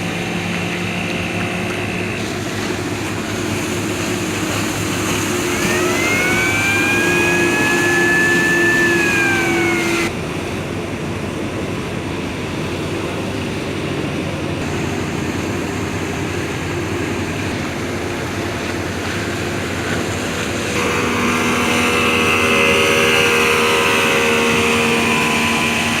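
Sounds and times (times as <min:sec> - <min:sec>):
rush of wind and water: 0:00.0 - 0:26.0
speedboat engine whine: 0:00.0 - 0:26.0.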